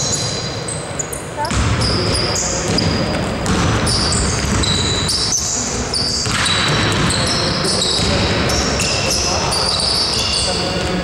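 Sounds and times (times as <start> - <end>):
basketball dribbling: 0.0 - 11.0
sneaker squeaks on floor: 0.0 - 11.0.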